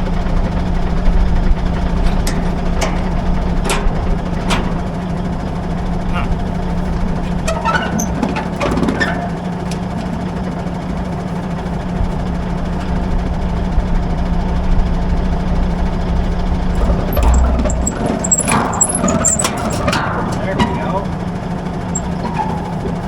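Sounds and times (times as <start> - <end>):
farm vehicle engine droning: 0.0 - 23.0.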